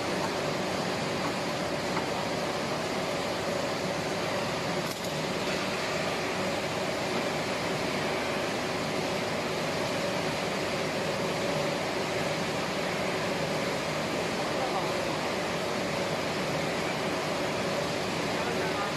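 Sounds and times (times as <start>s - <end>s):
machinery hum and whir: 0.0s - 18.9s.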